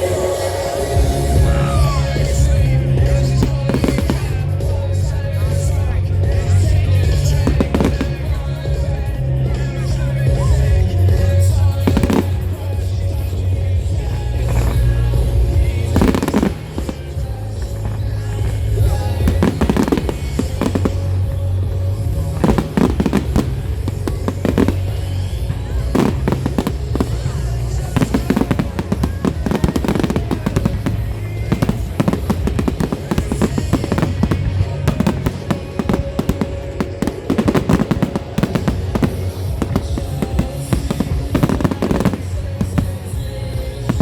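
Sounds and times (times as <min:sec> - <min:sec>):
fireworks bangs and crackling: 0:00.0 - 0:44.0
loud music with heavy bass: 0:00.0 - 0:44.0.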